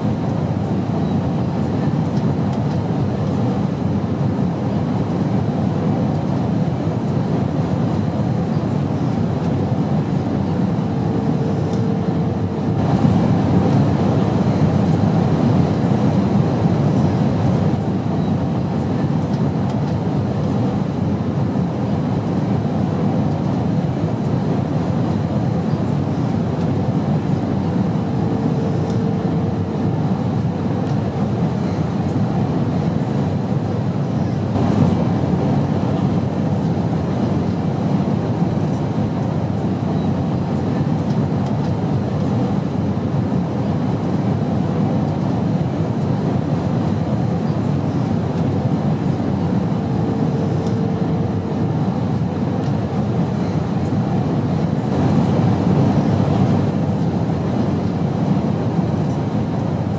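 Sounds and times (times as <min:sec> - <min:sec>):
jet airplane drone: 0:00.0 - 0:41.4, 0:42.0 - 0:59.9.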